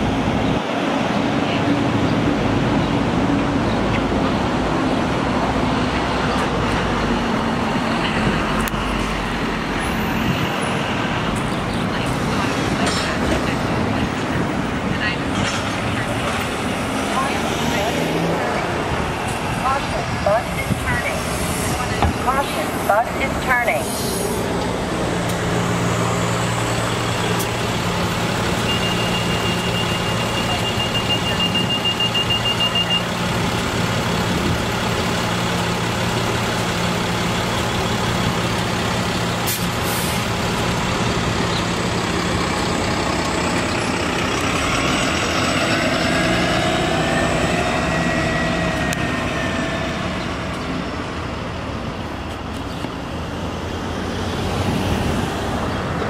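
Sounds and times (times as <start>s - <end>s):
bus engine humming: 0.0s - 56.0s
bus whine accelerating: 0.0s - 56.0s.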